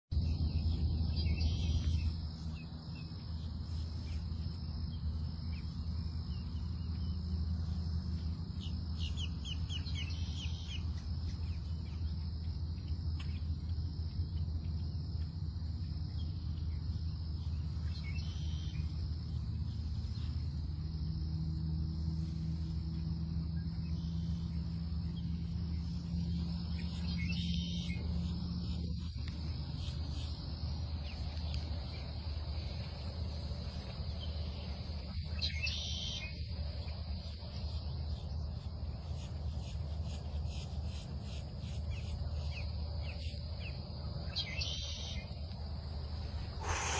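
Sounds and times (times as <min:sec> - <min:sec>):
steady low hum: 0:00.1 - 0:46.9
high insect drone: 0:00.2 - 0:46.9.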